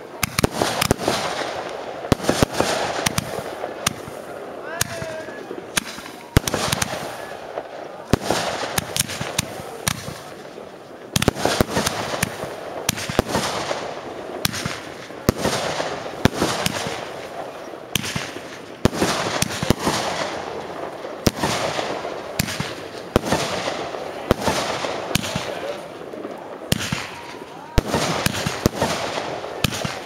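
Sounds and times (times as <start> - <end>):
fireworks bursting with bangs: 0.0 - 30.0
fireworks crackling hiss: 0.0 - 30.0.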